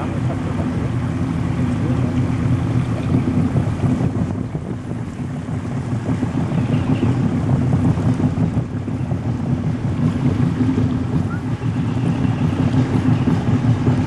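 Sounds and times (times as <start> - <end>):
boat motor droning: 0.0 - 14.0
water noise: 0.0 - 14.0
wind: 0.0 - 14.0.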